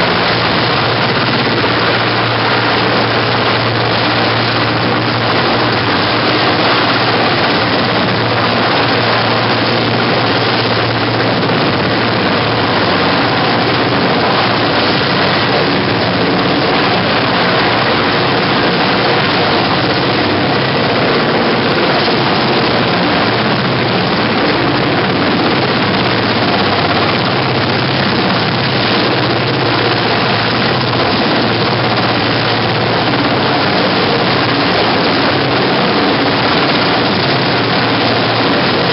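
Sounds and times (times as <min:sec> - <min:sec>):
helicopter hovering: 0:00.0 - 0:38.9.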